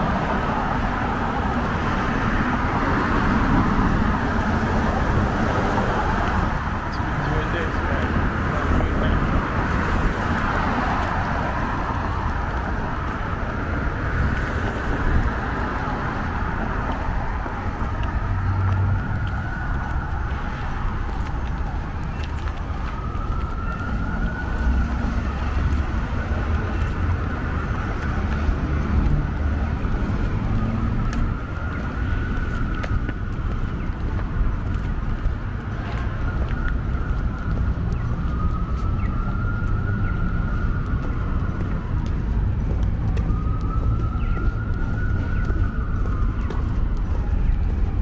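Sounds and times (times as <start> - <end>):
faint emergency siren wailing: 0.0 - 48.0
street traffic passing: 0.0 - 48.0.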